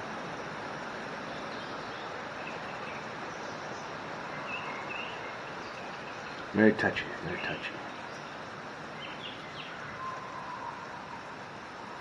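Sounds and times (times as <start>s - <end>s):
faint bird chirps: 1.2s - 12.0s.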